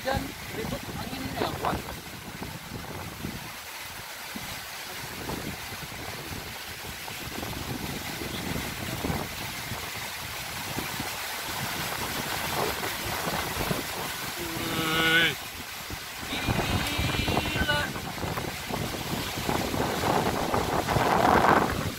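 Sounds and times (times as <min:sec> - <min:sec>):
strong gusty wind: 0:00.0 - 0:21.9.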